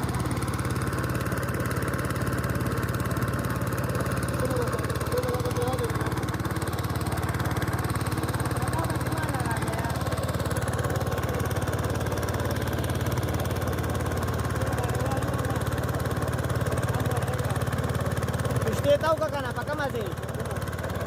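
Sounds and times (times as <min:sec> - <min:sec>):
small boat engine running: 0:00.0 - 0:21.0.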